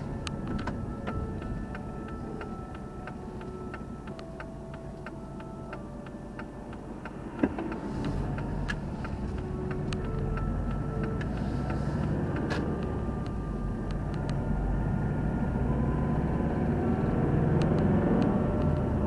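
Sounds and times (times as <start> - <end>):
car engine idling: 0.0 - 15.6
turn signal ticking: 0.0 - 19.0.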